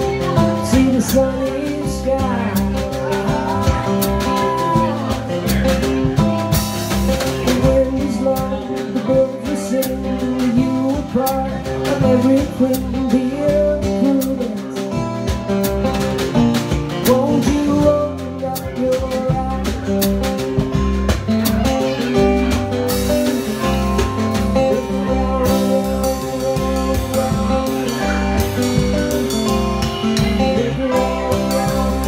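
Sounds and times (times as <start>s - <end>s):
acoustic guitar: 0.0s - 32.0s
drum kit playing: 0.0s - 32.0s
man singing: 0.0s - 32.0s.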